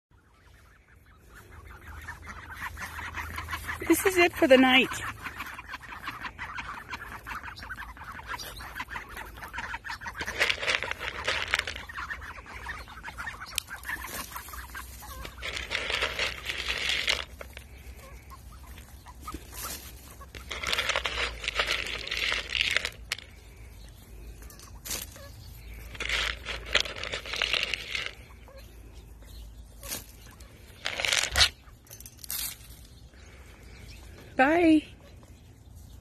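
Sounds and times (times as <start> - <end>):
ducks clucking softly: 0.1 - 32.1
rustling in dry grass: 0.2 - 36.0.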